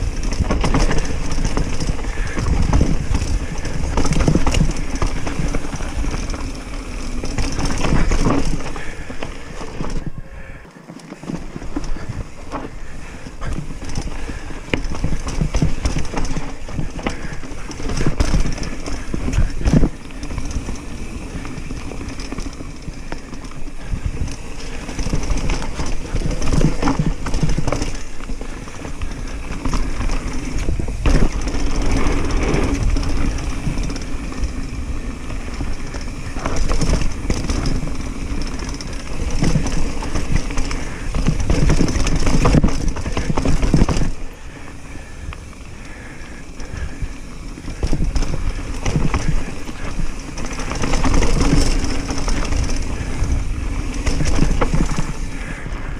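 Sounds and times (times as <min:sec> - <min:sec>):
bike rattling over bumps: 0:00.0 - 0:55.9
bike tyres crunching over dirt: 0:00.0 - 0:55.9.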